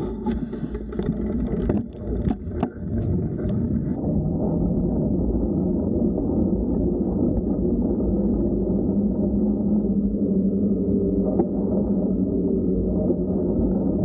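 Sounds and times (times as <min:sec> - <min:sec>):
bicycle tyre rumble: 0:00.0 - 0:14.0.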